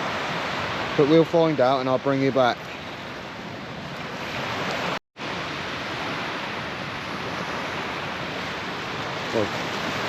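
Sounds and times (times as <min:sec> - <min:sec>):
surf on a sand beach: 0:00.0 - 0:10.0.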